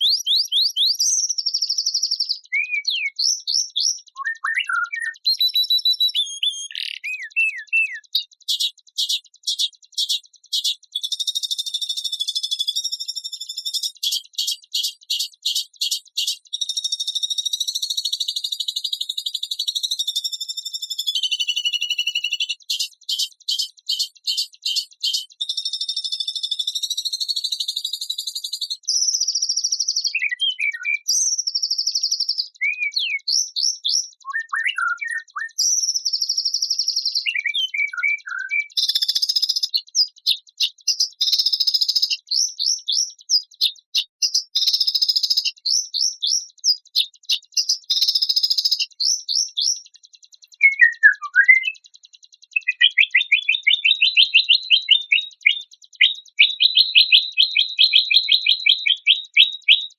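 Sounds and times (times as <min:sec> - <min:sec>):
songbird buzzy trills: 0:00.0 - 0:59.9
songbird chirps and whistles: 0:00.0 - 0:59.9.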